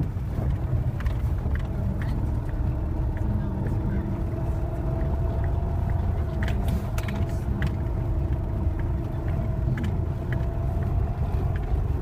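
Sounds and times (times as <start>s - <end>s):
car engine running under load: 0.0s - 12.0s.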